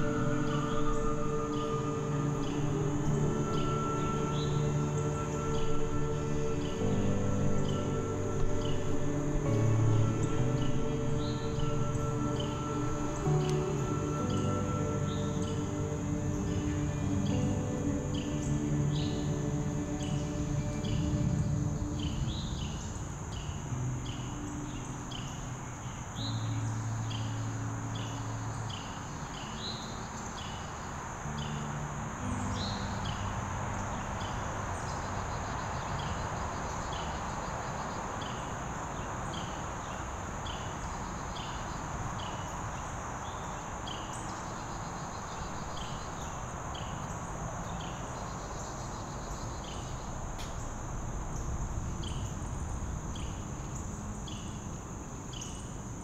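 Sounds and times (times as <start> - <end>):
high-pitched insect drone: 0.0 - 56.0
insect chirping: 0.0 - 56.0.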